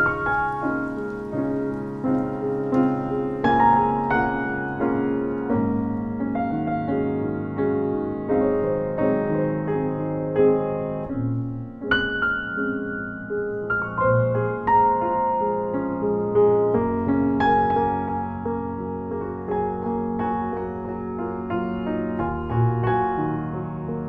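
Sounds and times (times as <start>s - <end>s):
slow piano piece: 0.0s - 24.0s.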